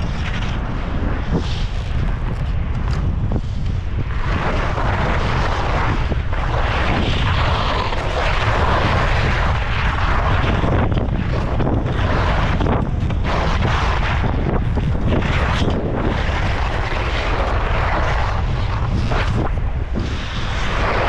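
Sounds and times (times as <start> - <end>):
skis scraping icy snow: 0.0 - 21.0
wind buffeting microphone: 0.0 - 21.0.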